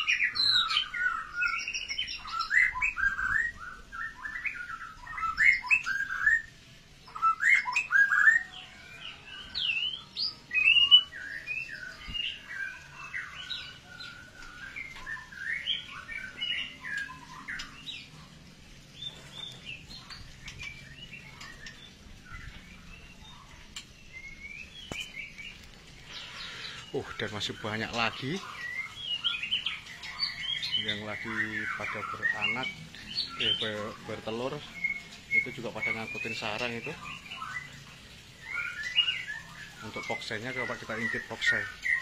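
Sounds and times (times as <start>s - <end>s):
songbirds singing and chirping: 0.0s - 42.0s.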